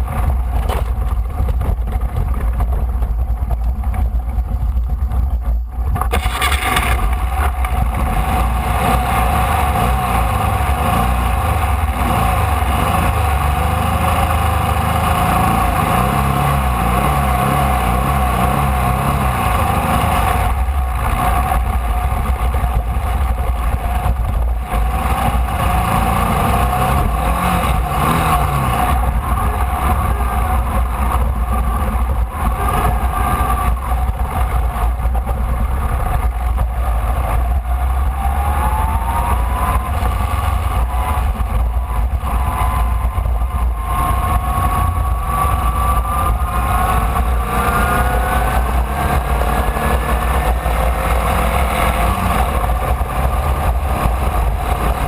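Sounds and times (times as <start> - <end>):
race car engine running hard: 0.0 - 55.0
wind and road noise: 0.0 - 55.0.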